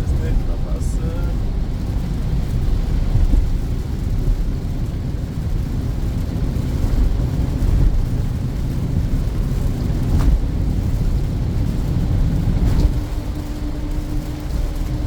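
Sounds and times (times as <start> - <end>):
car engine under load: 0.0 - 15.0
tyres on wet road: 0.0 - 15.0.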